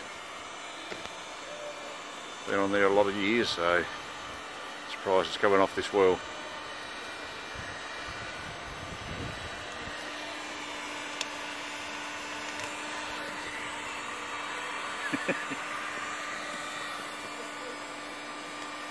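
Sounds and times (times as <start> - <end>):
heat gun fan humming: 0.0 - 18.9.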